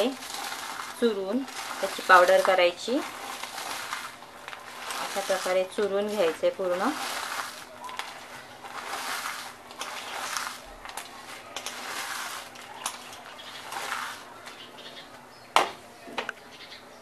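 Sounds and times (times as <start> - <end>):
dry crunching and crackling: 0.0 - 16.4.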